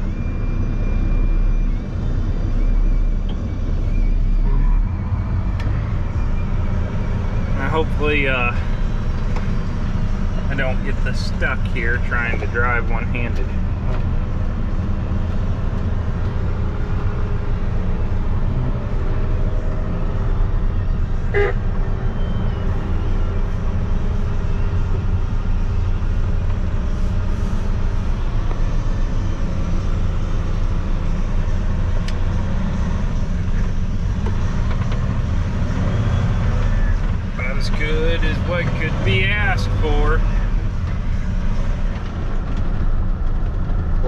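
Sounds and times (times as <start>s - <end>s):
tractor engine drone: 0.0s - 44.0s.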